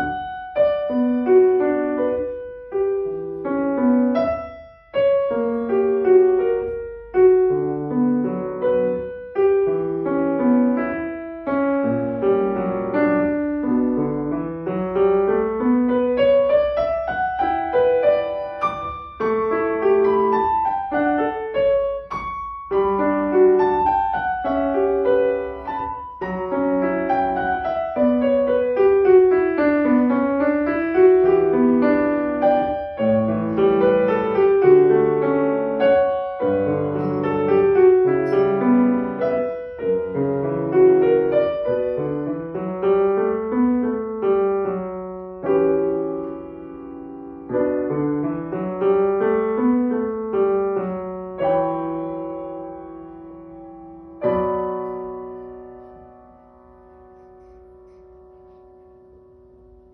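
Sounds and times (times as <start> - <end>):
solo piano piece: 0.0 - 59.9.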